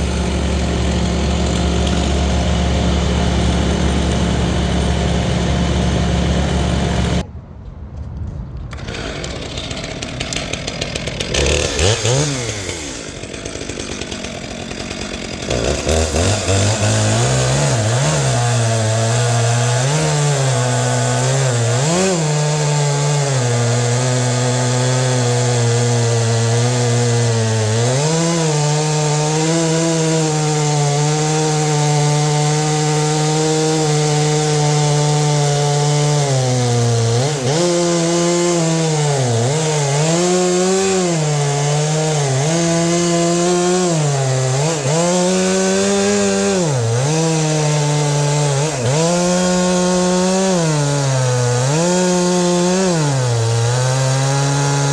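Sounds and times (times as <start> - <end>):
chainsaw cutting wood: 0.0 - 7.3, 8.7 - 54.9.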